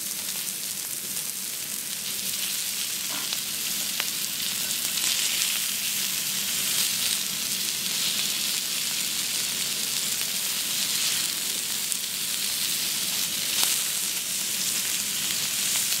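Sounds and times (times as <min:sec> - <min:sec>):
beef sizzling on a griddle: 0:00.0 - 0:16.0.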